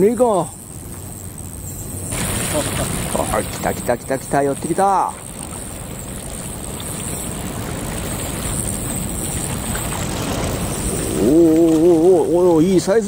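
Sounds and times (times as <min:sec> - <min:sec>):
wind: 0:00.0 - 0:13.0
water rushing: 0:02.1 - 0:13.0.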